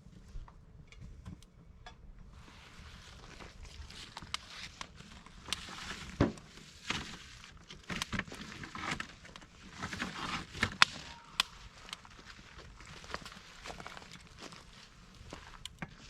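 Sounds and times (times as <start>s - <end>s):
campfire crackling and snapping: 2.4s - 16.0s.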